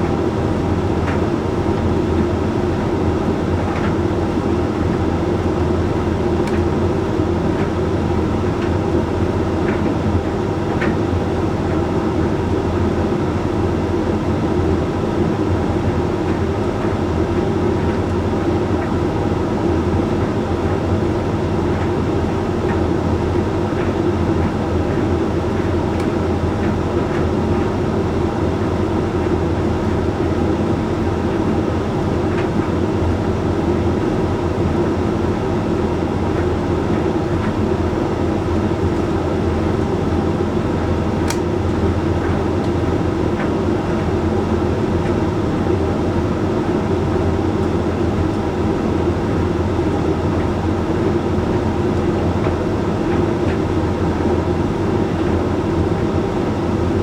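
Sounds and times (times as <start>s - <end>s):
tumble dryer running: 0.0s - 57.0s.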